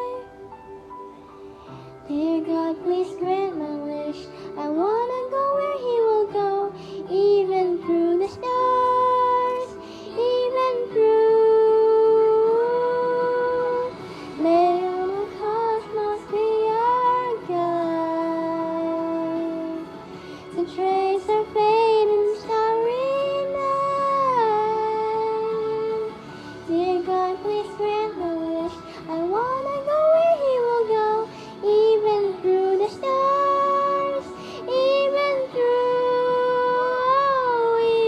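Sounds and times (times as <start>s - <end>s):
girl singing: 0.0s - 0.3s, 2.1s - 19.9s, 20.5s - 38.0s.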